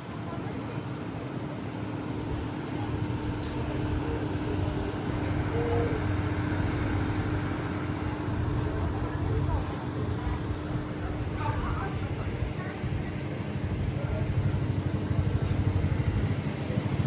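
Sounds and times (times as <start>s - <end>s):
vehicle engine rumbling: 1.0s - 17.0s.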